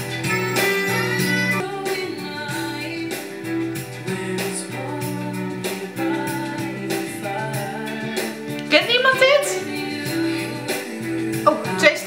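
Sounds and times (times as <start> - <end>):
person singing christmas song: 0.0 - 12.0.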